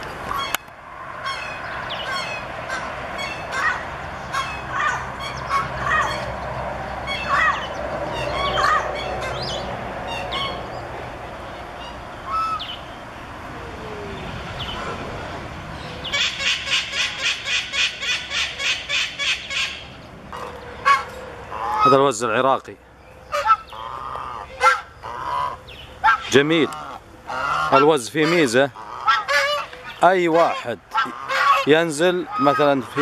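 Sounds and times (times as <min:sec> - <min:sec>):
waterfowl and bird calls: 0:00.3 - 0:12.9, 0:15.8 - 0:22.1, 0:23.2 - 0:33.0.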